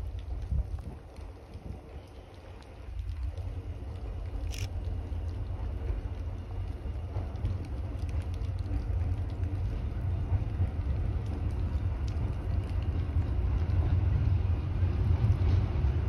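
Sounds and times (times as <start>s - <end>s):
light rain pattering: 0.0s - 16.0s
wind buffeting microphone: 0.0s - 16.0s.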